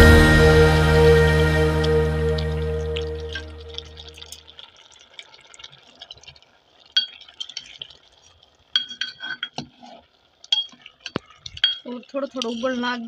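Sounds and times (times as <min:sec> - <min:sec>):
faint crackling simmer: 0:00.7 - 0:13.0.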